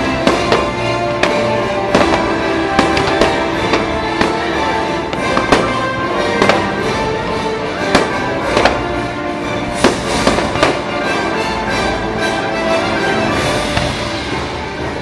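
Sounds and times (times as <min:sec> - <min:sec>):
fireworks bangs: 0:00.0 - 0:11.2, 0:13.6 - 0:14.6
loud show music: 0:00.0 - 0:15.0.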